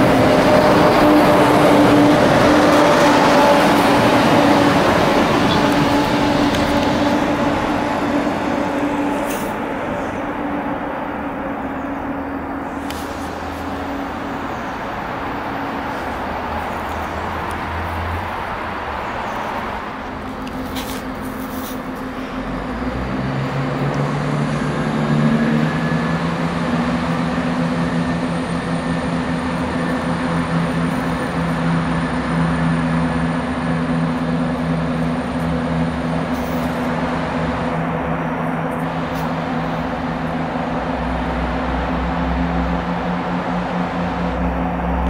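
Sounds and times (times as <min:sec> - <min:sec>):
diesel train engine: 0:00.0 - 0:45.0.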